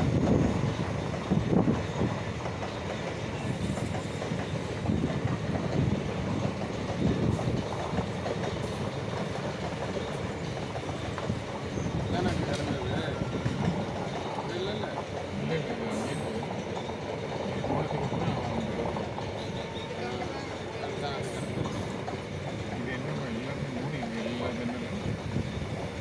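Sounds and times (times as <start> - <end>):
rumble of train wheels on rail: 0.0 - 26.0
wheels clacking over rail joints: 0.0 - 26.0.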